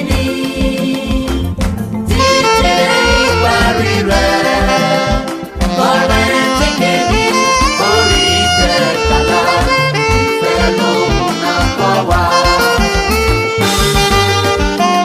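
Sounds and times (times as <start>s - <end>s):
pulsing bass line: 0.0s - 15.0s
upbeat band music with brass: 0.0s - 15.0s.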